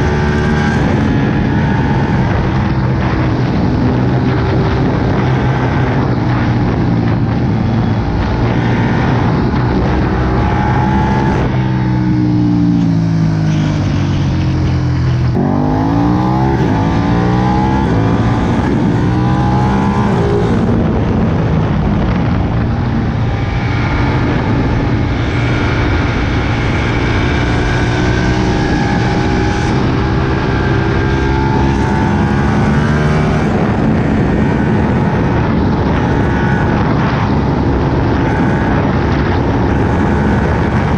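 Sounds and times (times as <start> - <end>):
motorcycle engine under way: 0.0 - 40.9.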